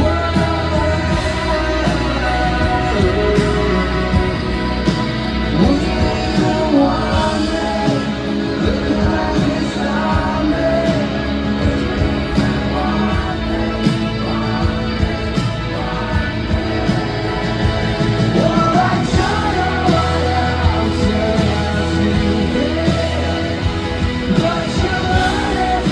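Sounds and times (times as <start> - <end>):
rock band playing live: 0.0 - 25.9.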